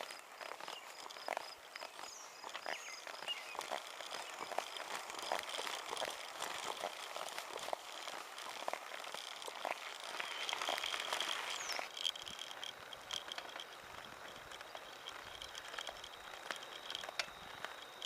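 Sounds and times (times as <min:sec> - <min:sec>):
bike clicks and rattles: 0:00.0 - 0:18.0.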